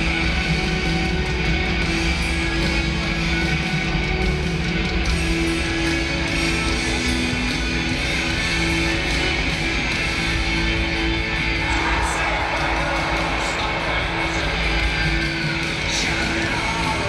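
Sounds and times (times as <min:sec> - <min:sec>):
rock music with guitar: 0:00.0 - 0:17.0.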